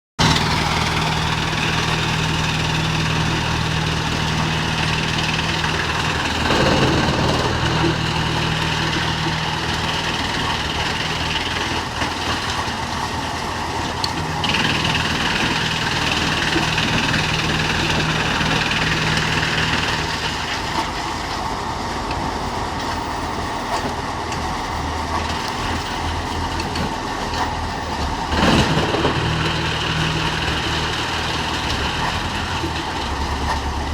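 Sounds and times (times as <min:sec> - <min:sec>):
wood chipper running: 0:00.2 - 0:33.9.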